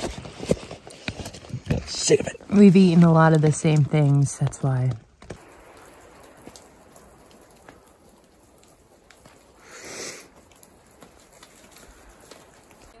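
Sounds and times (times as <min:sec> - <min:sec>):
light rain falling: 0:00.0 - 0:13.0
raindrops ticking: 0:01.0 - 0:13.0.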